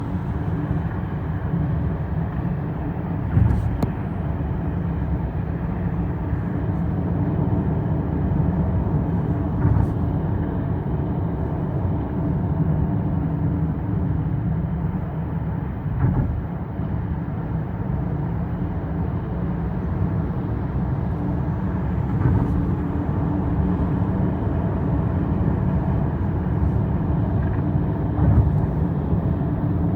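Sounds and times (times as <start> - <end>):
vehicle rumble: 0.0 - 29.9.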